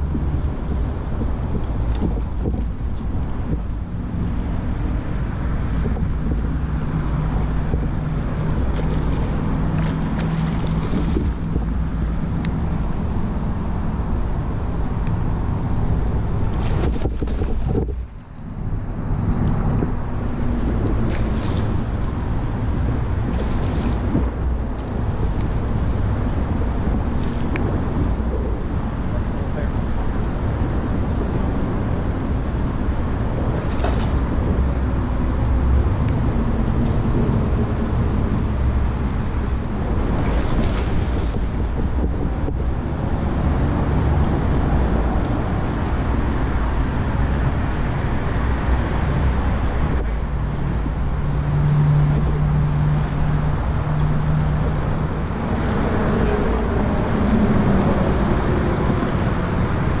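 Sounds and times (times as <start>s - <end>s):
engine hum: 0.0s - 60.0s
road traffic rumble: 0.0s - 60.0s
wind noise on microphone: 0.0s - 60.0s.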